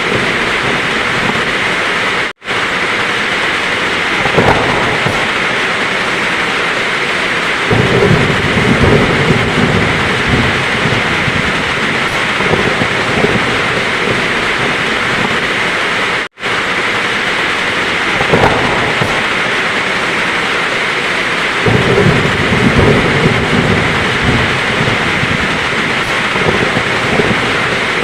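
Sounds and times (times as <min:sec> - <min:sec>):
heavy rain hissing: 0:00.0 - 0:28.0
thunder rumbling: 0:00.0 - 0:28.0.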